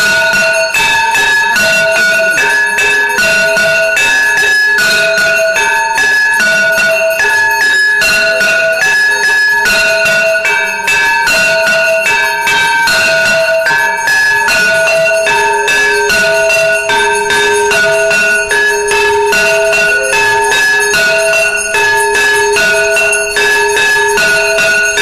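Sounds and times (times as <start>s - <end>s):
temple bells ringing: 0.0s - 25.0s.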